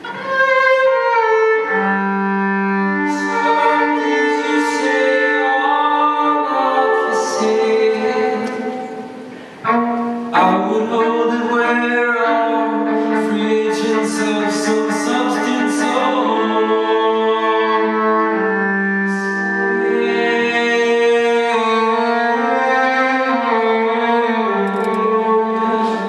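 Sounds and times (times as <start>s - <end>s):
layered bowed violin chords: 0.0s - 26.0s.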